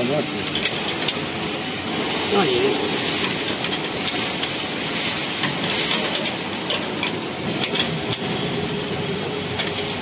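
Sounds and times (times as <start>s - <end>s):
background machinery noise: 0.0s - 10.0s.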